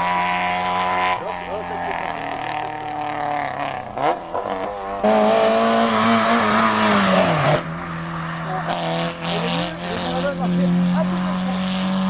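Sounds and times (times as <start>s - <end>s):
car passing at full throttle: 0.0s - 12.0s
rally car engine revving: 0.0s - 12.0s.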